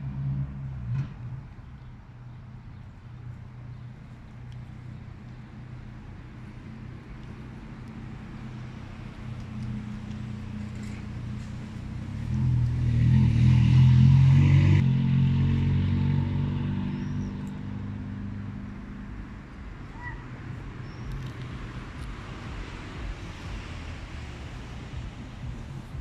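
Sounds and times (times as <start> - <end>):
passing vehicle engine hum: 0.0 - 26.0.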